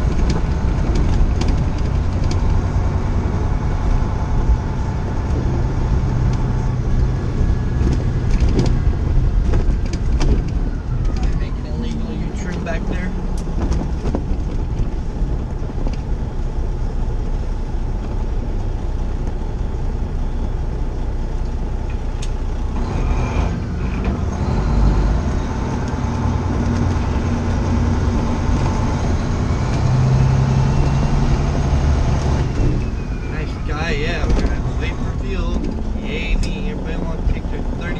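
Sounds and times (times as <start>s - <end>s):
road noise: 0.0s - 37.9s
truck diesel engine running: 0.0s - 37.9s.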